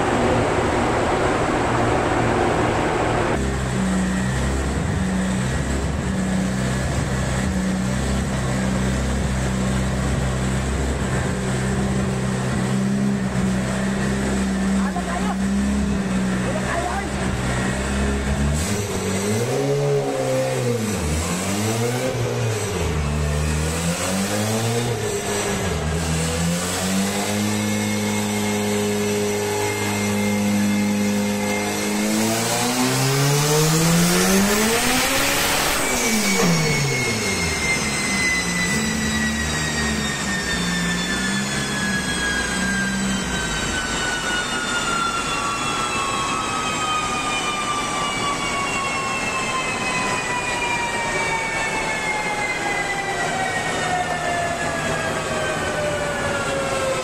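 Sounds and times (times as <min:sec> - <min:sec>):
car engine revving: 0:00.0 - 0:51.0
dyno rollers whining: 0:00.0 - 0:57.0.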